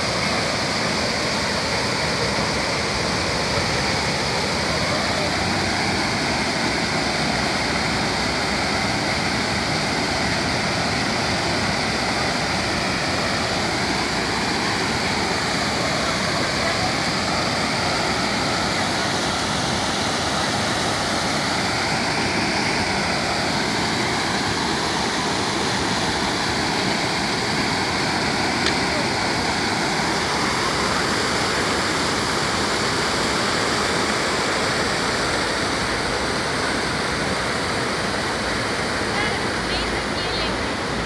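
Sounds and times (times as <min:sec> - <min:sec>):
fountain water splashing into pool: 0:00.0 - 0:41.0.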